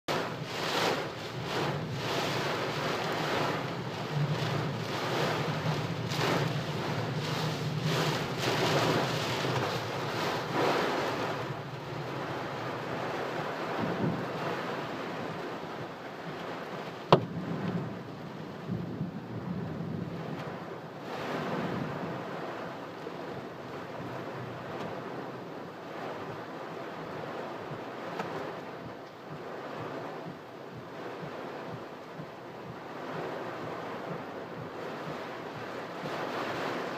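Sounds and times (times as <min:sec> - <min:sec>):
heavy rain pounding on a car: 0:00.1 - 0:36.9.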